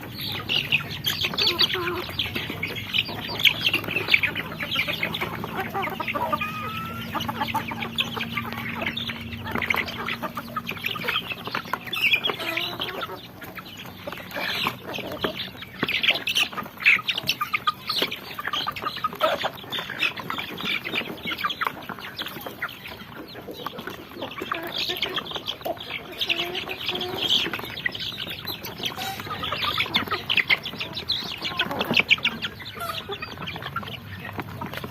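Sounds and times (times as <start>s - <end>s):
chicks peeping: 0.0s - 34.9s
low clucks: 0.0s - 34.9s.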